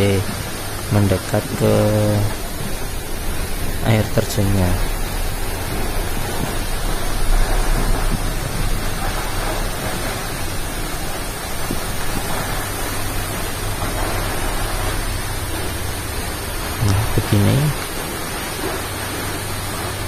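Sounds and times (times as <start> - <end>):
waterfall rushing onto rocks: 0.0 - 20.0.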